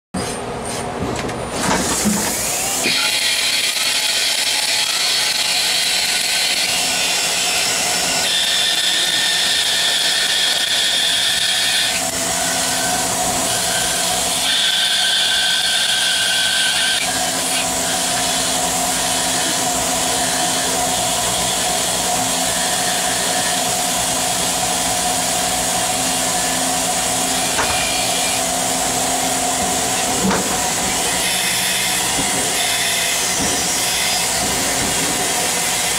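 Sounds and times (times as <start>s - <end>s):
lathe cutting metal with whine: 2.3s - 35.9s.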